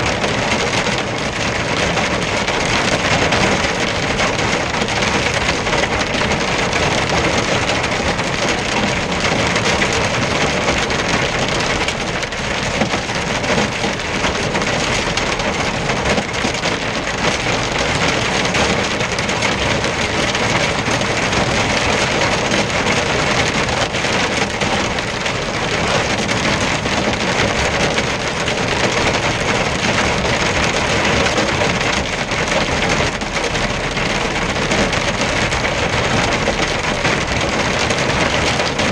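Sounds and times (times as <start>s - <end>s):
hail and rain on windscreen: 0.0s - 38.9s.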